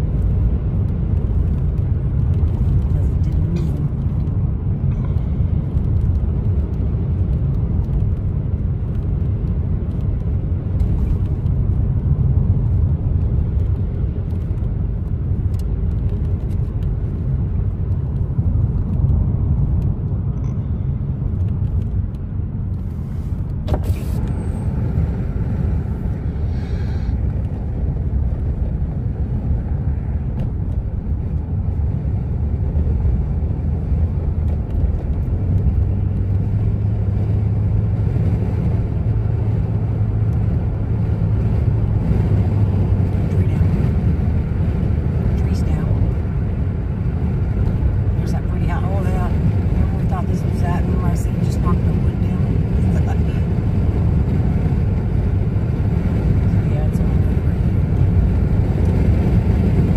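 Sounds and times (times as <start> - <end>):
car driving interior rumble: 0.0 - 59.9.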